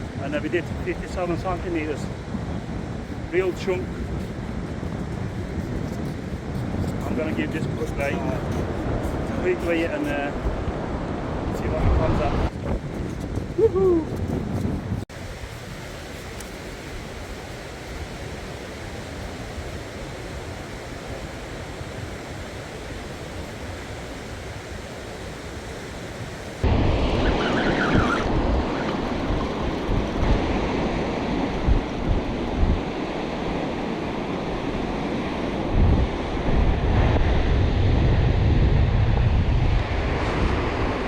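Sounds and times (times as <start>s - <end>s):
surf on rocks: 0.0s - 38.3s
wind buffeting microphone: 0.0s - 41.0s.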